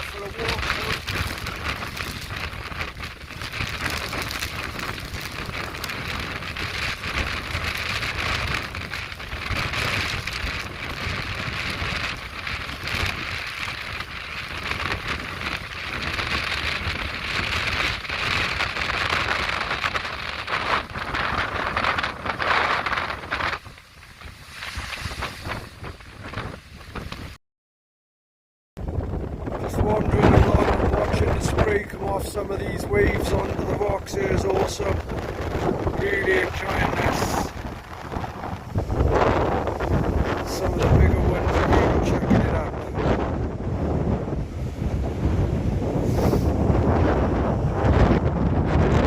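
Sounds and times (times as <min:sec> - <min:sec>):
surf breaking on rocks: 0:00.0 - 0:27.4, 0:28.9 - 0:49.0
wind buffeting microphone: 0:00.0 - 0:27.4, 0:28.8 - 0:49.0.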